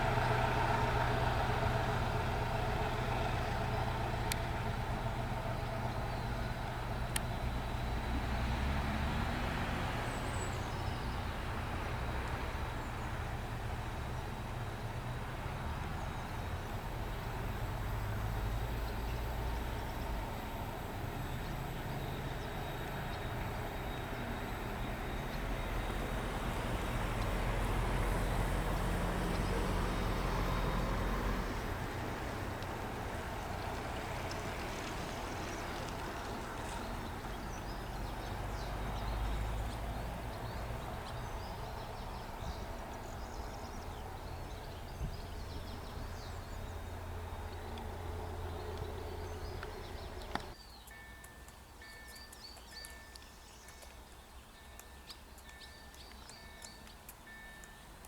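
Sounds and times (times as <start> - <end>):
birdsong: 0.0 - 57.9
diesel locomotive engine rumble: 0.0 - 58.0.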